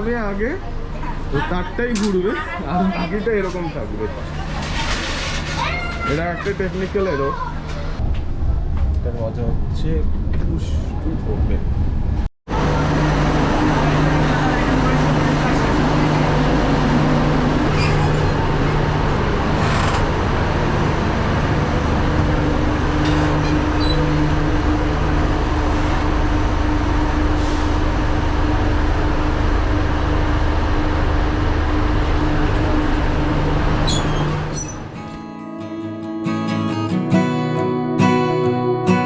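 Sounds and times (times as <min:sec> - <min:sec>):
train rumbling inside coach: 0:00.0 - 0:35.0.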